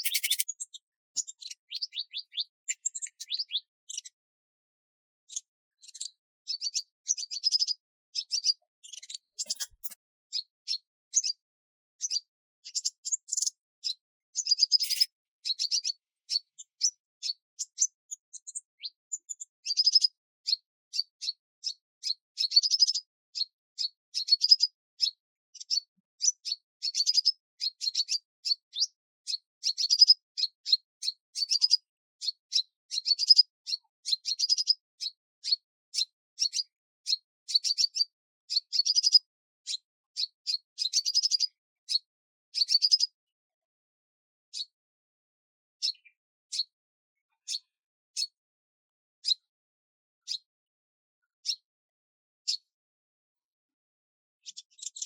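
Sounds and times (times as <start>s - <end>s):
small bird chirping: 0.0s - 4.2s, 5.3s - 11.4s, 12.0s - 43.2s, 44.5s - 44.8s, 45.8s - 48.4s, 49.2s - 49.5s, 50.2s - 50.5s, 51.4s - 51.7s, 52.5s - 52.7s, 54.4s - 55.0s.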